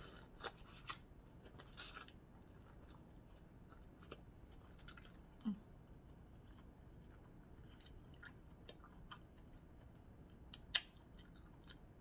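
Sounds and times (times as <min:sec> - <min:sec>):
chewing: 0:00.0 - 0:11.9.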